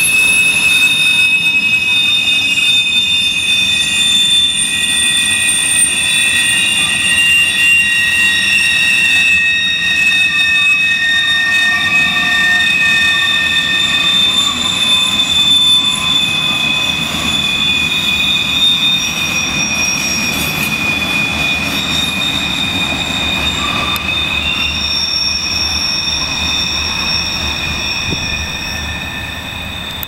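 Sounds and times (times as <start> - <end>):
low rumble of train: 0.0 - 30.0
train wheels squealing on rails: 0.0 - 30.0.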